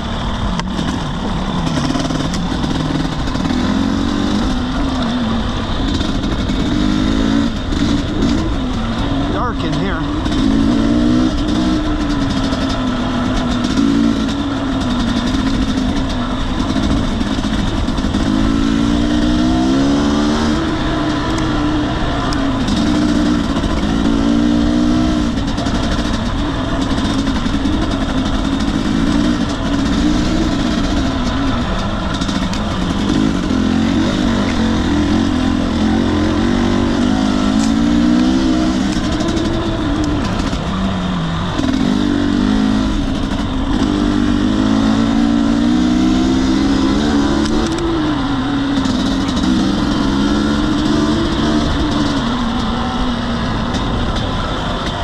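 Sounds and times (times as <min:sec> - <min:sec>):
dirt bike engine revving: 0:00.0 - 0:55.0
wind and tyre noise: 0:00.0 - 0:55.0.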